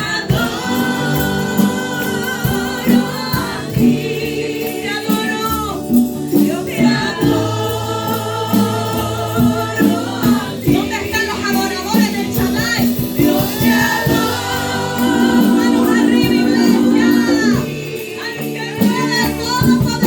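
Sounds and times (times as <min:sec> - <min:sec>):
band with bass and drums: 0:00.0 - 0:20.0
group of singers: 0:00.0 - 0:20.0.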